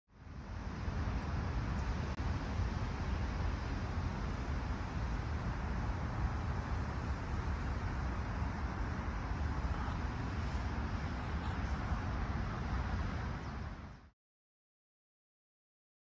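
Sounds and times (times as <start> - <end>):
distant traffic rumble: 0.3 - 14.1.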